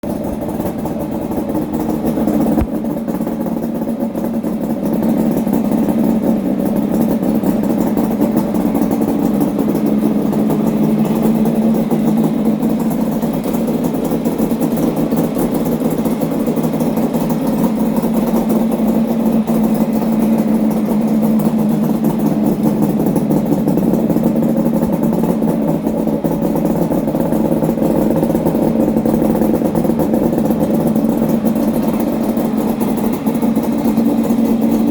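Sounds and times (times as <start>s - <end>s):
two-stroke engine idling: 0.0s - 34.9s.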